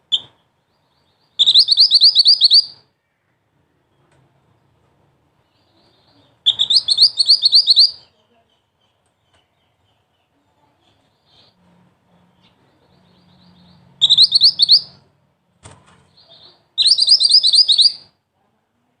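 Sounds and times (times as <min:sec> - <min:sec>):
songbird chirping: 0:00.0 - 0:18.9.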